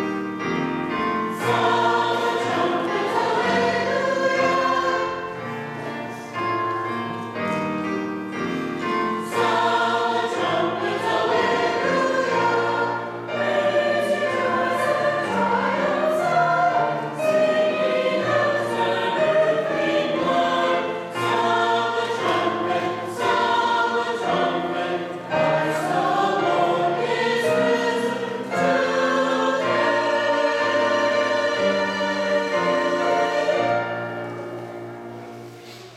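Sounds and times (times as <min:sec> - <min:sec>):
choir and congregation singing hymn: 0:00.0 - 0:35.8.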